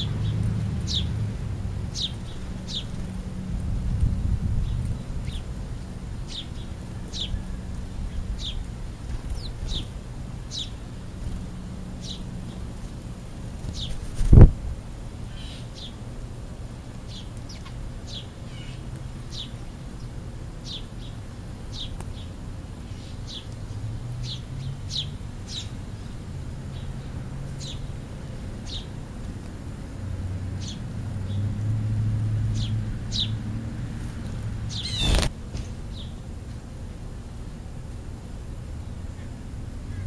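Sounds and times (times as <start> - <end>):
sparrows chirping: 0.0 - 36.3.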